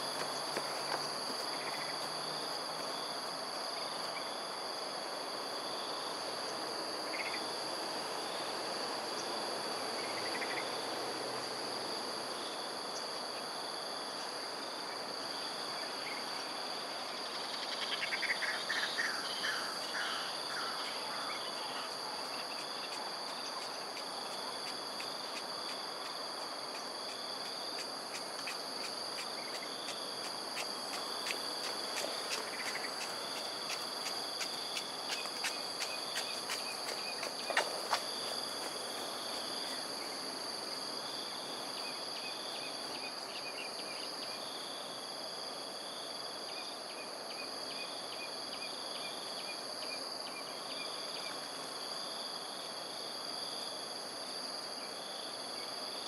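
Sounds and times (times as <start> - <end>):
insects trilling: 0.0 - 11.0, 12.4 - 56.0
outdoor background hiss: 0.0 - 56.0.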